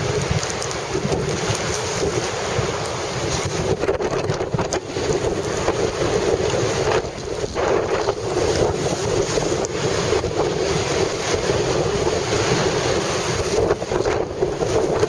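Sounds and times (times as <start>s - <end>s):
storm waves surging: 0.0s - 15.0s
wind buffeting microphone: 0.0s - 15.0s.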